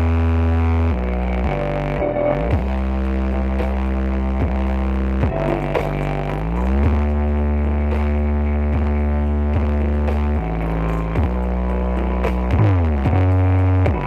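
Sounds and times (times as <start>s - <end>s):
deep sliding bass: 0.0s - 14.0s
loud electronic dance music: 0.0s - 14.0s.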